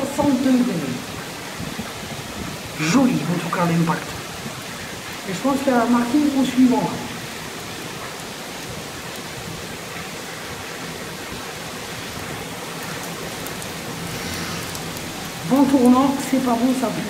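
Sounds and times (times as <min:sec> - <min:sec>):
heavy rain downpour: 0:00.0 - 0:17.0.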